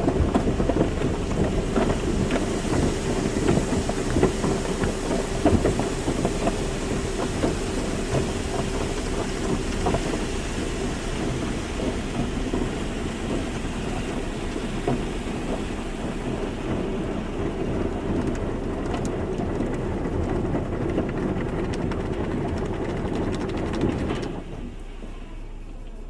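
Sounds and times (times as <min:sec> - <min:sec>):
water spray on a car: 0:00.0 - 0:25.9.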